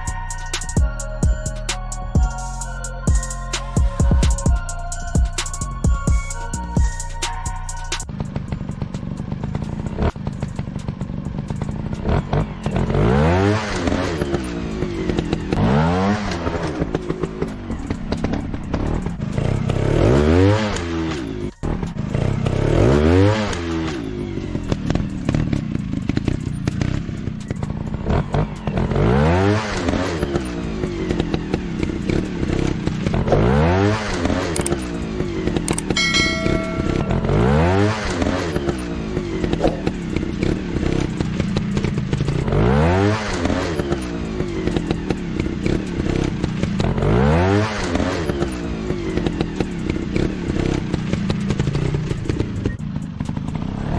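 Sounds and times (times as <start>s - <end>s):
motorbike engine revving: 7.6s - 53.9s.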